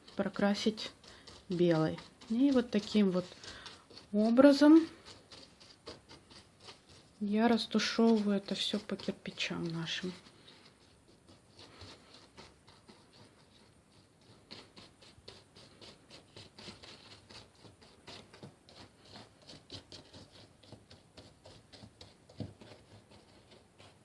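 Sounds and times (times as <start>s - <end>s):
paintbrush scratchy strokes: 0.0s - 24.0s.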